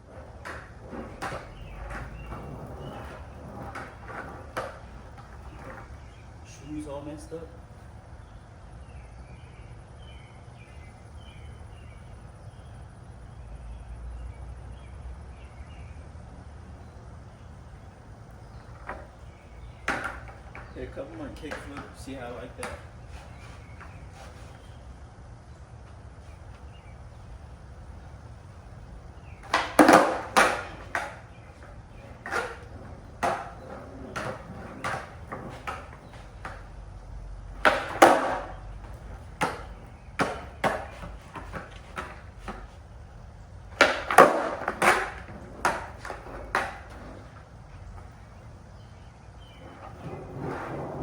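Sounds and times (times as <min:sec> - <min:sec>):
skateboard clacking: 0:00.0 - 0:08.2, 0:17.2 - 0:25.1, 0:25.9 - 0:51.0.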